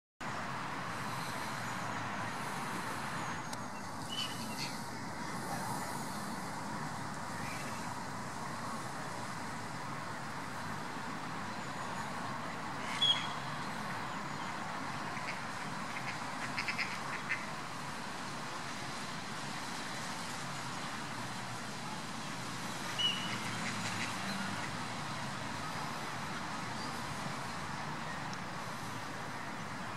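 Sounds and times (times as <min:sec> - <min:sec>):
steady background hiss: 0:00.2 - 0:29.9.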